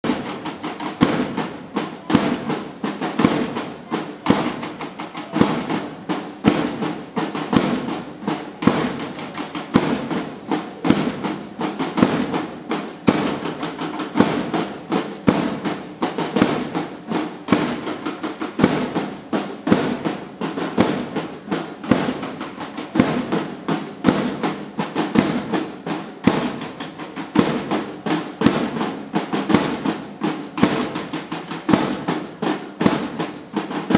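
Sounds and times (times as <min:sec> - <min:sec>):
drums beating: 0:00.0 - 0:33.9
slow march music: 0:00.0 - 0:33.9.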